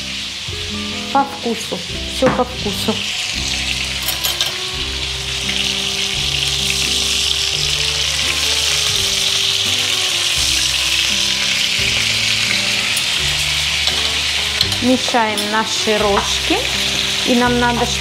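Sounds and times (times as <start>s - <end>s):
oil sizzling in frying pans: 0.0s - 18.0s.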